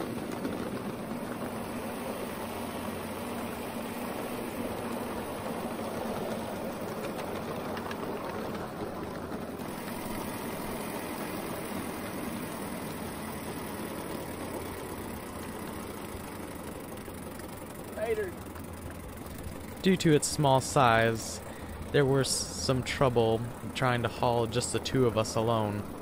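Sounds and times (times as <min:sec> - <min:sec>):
small steam locomotive running: 0:00.0 - 0:26.0.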